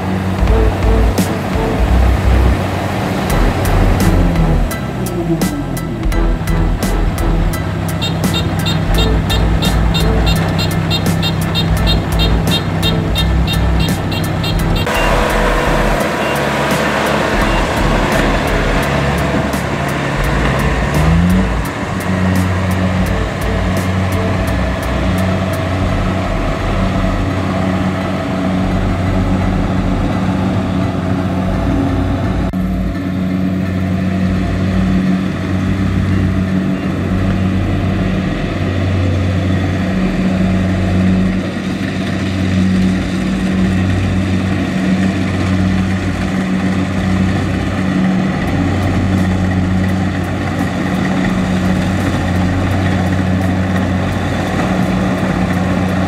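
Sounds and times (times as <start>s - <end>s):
combine harvester diesel engine drone: 0.0s - 56.0s.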